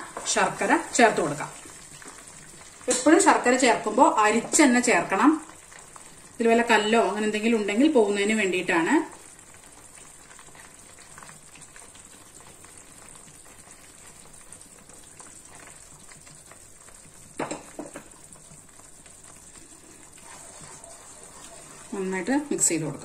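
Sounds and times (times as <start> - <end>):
paste sizzling in a pan: 0.0 - 23.0.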